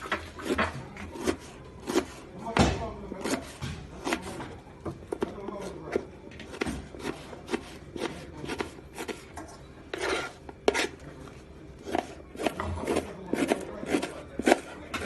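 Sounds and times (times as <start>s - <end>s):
knife scraping board: 0.0s - 2.3s, 3.2s - 4.5s, 5.6s - 11.0s, 11.8s - 15.0s
knife chopping on cutting board: 0.0s - 4.4s, 5.2s - 9.2s, 10.0s - 10.9s, 11.9s - 15.0s.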